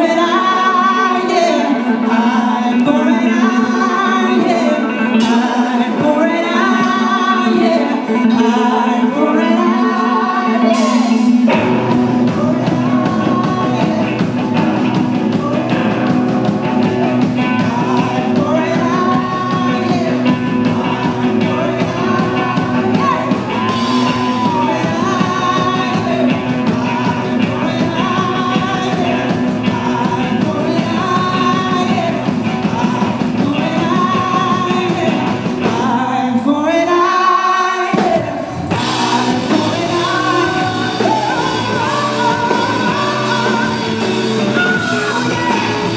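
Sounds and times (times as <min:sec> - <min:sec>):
rock band playing: 0:00.0 - 0:36.2, 0:37.9 - 0:45.9
person singing: 0:00.0 - 0:45.9.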